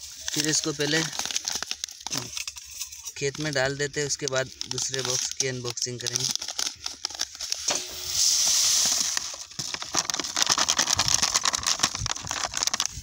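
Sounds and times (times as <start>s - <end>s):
seeds pouring hiss: 0.0s - 2.3s, 3.4s - 13.0s
plastic packet crackling and rattling: 0.0s - 13.0s.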